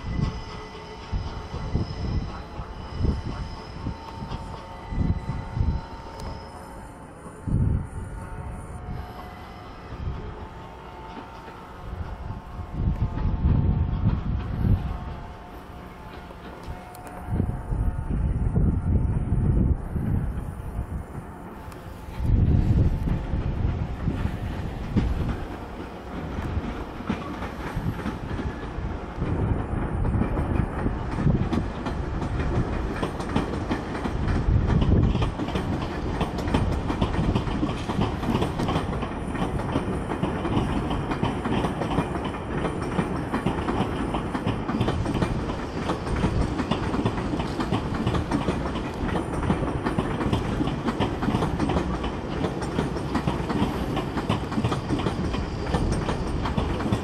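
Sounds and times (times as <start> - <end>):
train wheels clattering over joints: 0.0 - 6.5, 11.0 - 17.6, 20.2 - 57.0.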